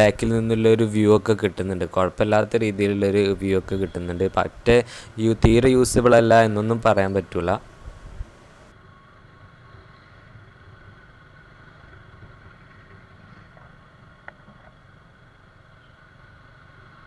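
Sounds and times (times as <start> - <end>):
wind and road noise: 0.0 - 8.8, 9.4 - 17.0.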